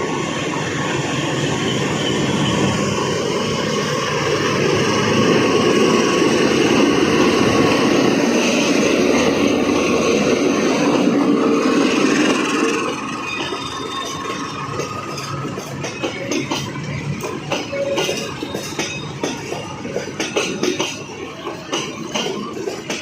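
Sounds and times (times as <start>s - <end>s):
train rumbling along rails: 0.0s - 23.0s.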